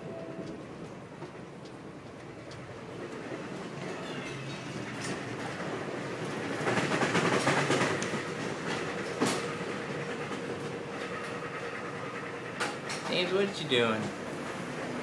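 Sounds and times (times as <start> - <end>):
train rail running noise: 0.0 - 15.0.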